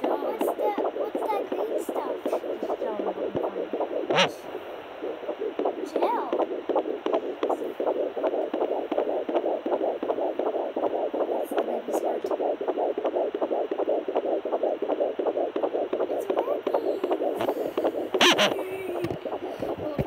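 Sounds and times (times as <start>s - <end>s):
fetal heartbeat whooshing pulse: 0.0s - 20.0s.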